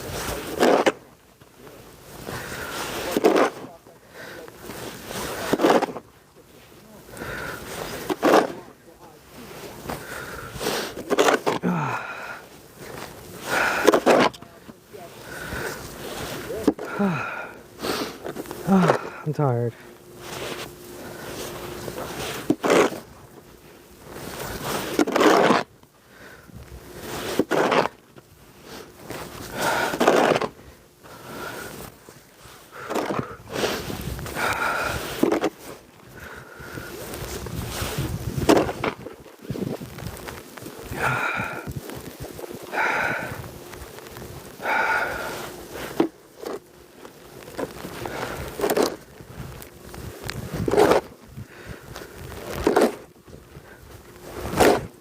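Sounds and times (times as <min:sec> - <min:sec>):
snow shovel scraping snow: 0:00.0 - 0:55.0.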